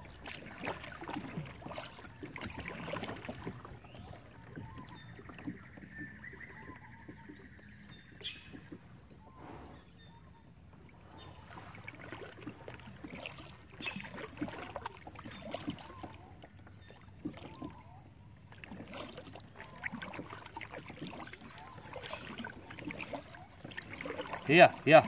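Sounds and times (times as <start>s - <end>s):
kayak paddle strokes in water: 0.0s - 25.0s.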